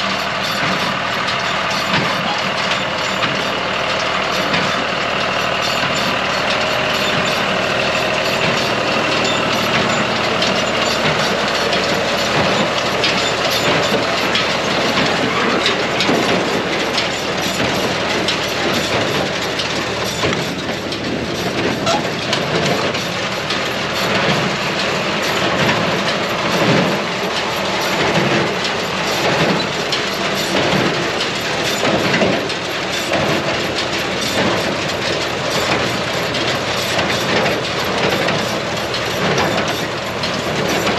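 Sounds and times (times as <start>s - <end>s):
baler mechanical clatter: 0.0s - 40.9s
tractor engine running: 0.0s - 40.9s.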